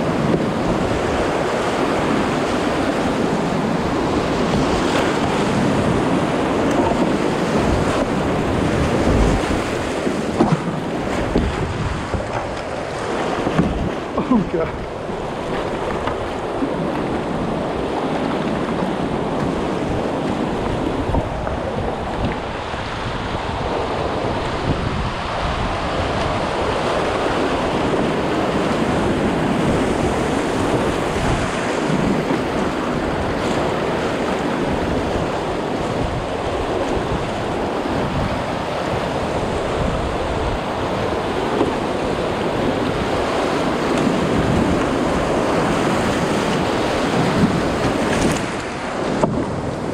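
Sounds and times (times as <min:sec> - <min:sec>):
rushing river rapids: 0:00.0 - 0:49.9.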